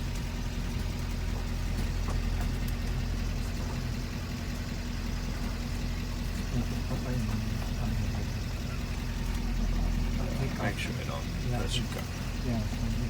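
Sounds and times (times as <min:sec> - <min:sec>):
bus engine idling low: 0:00.0 - 0:13.0.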